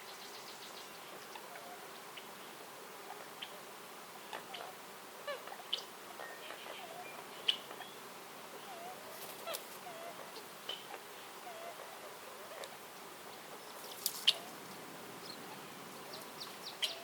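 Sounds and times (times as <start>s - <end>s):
faint steady hiss: 0.0s - 17.0s
forest birds chirping: 0.0s - 17.0s.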